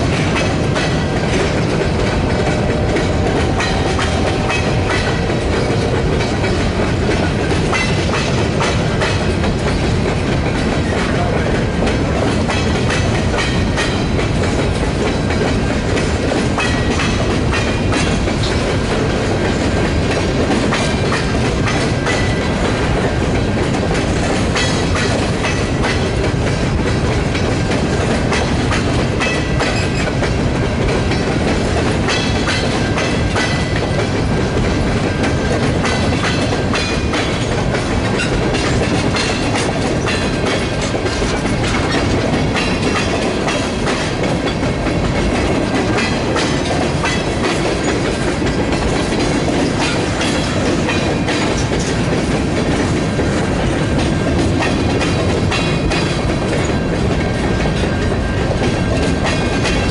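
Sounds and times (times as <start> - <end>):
freight train wheels rumbling: 0.0 - 59.9
wheels clacking over rail joints: 0.0 - 59.9.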